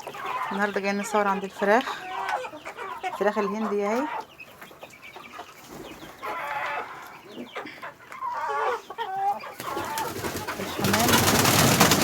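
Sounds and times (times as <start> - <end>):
poultry clucking: 0.0 - 12.0.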